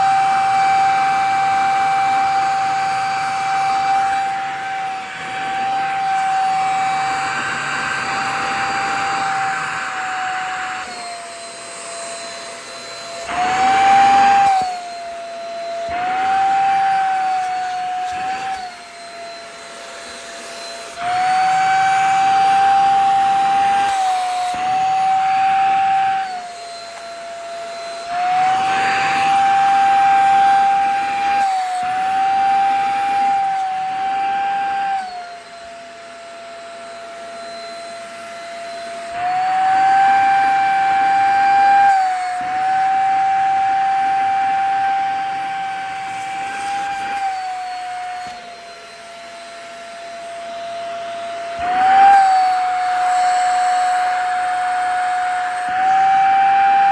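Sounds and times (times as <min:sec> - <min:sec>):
vacuum cleaner motor whine: 0:00.0 - 0:56.9.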